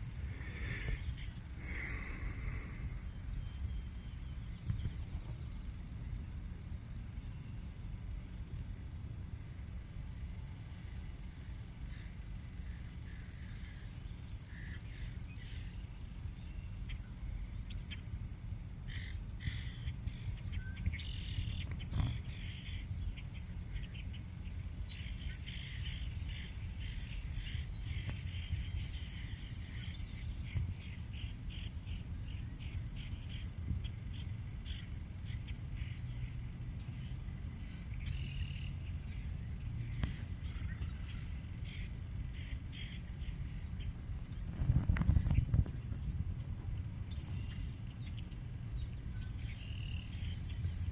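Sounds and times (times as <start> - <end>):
steady low rumble: 0.0 - 50.9.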